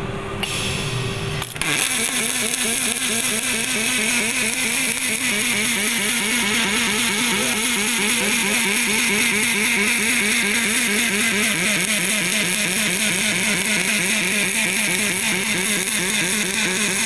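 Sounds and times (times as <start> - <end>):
welding arc hiss and buzz: 0.0 - 17.0.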